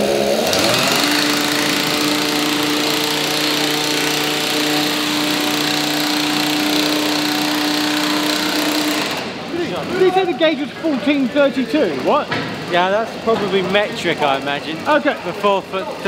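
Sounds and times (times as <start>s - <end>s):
small petrol engine running: 0.0s - 16.0s.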